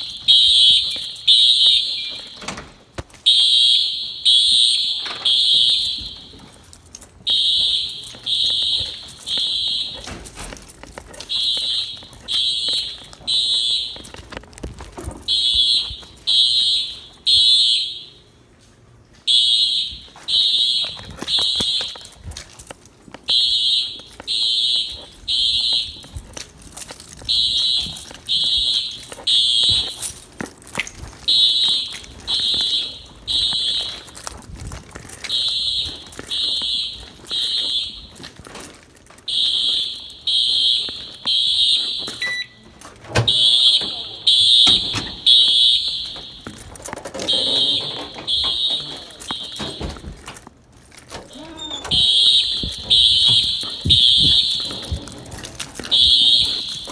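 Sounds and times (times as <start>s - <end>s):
fire alarm horn blasts: 0.0s - 18.5s, 19.2s - 50.4s, 51.1s - 56.9s.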